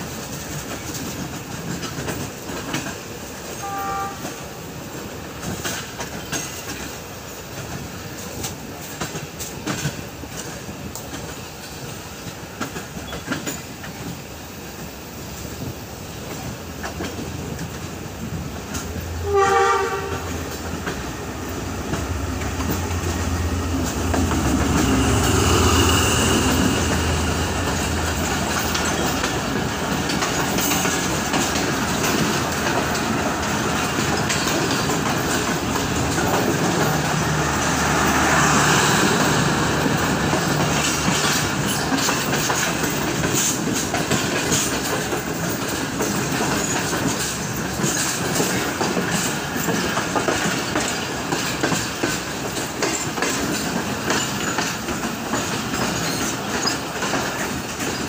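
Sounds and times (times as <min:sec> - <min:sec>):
clickety-clack over rail joints: 0:00.0 - 0:58.0
wheels rumbling on rail: 0:00.0 - 0:58.0.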